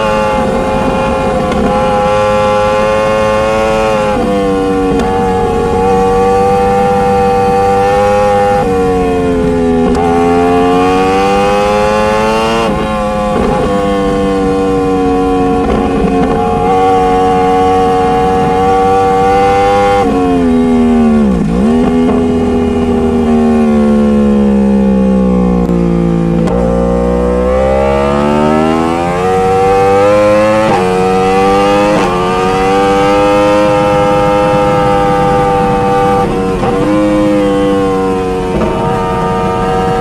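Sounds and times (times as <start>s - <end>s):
motorcycle engine shifting gears: 0.0s - 40.0s.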